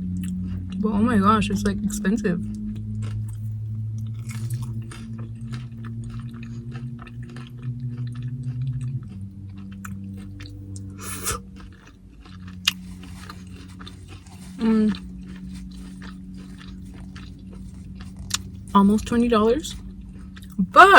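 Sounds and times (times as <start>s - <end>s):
chewing crunchy chips: 0.0s - 20.9s
steady low hum: 0.0s - 20.9s.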